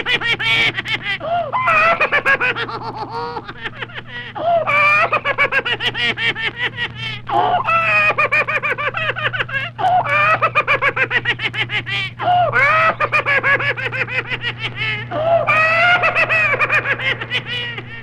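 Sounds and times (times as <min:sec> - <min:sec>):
high-pitched cackling laughter: 0:00.0 - 0:18.0.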